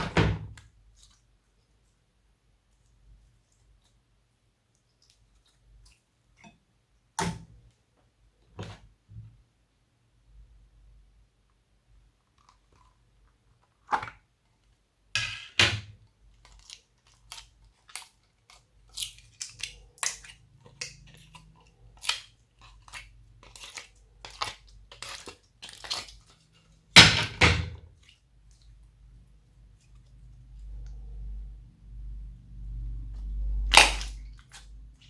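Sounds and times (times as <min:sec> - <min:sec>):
slime squishing by hand: 0:00.0 - 0:09.5, 0:15.8 - 0:31.6, 0:32.2 - 0:35.0.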